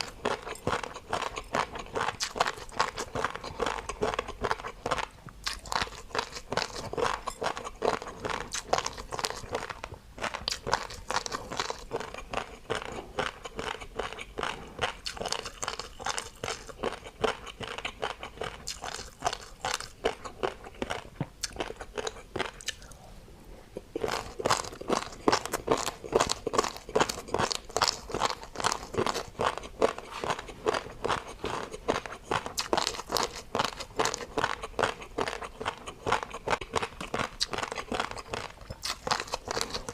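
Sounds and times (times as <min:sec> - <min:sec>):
crunching of crisp food chewed: 0:00.0 - 0:39.9.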